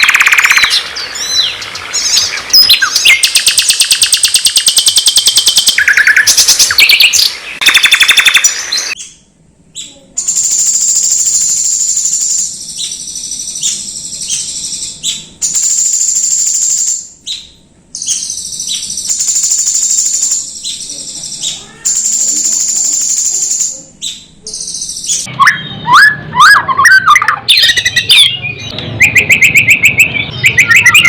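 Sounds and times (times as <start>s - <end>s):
songbird trilling and whistling: 0.0s - 31.0s.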